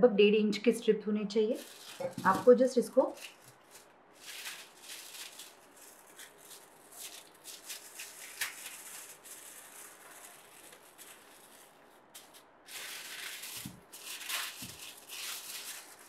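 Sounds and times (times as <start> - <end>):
aluminium foil crinkling: 1.5 - 16.0.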